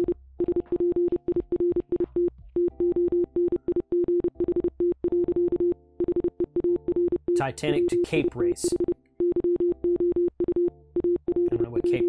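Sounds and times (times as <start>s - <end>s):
morse code tone: 0.0s - 12.0s.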